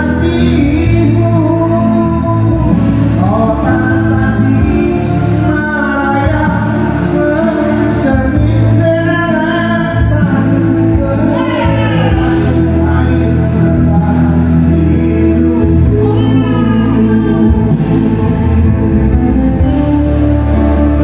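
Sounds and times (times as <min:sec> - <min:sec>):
man singing karaoke into microphone: 0:00.0 - 0:21.0
pop backing track: 0:00.0 - 0:21.0.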